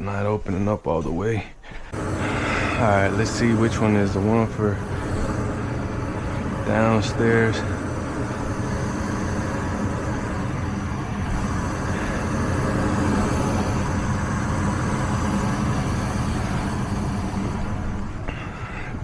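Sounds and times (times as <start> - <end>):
low hum: 1.7 - 19.0
furnace blower rushing air: 1.8 - 19.0.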